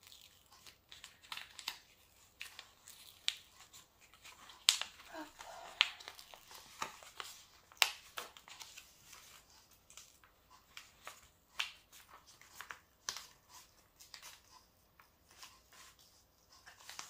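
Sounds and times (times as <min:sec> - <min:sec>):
plastic sheet peeling crackles: 0:00.0 - 0:17.0.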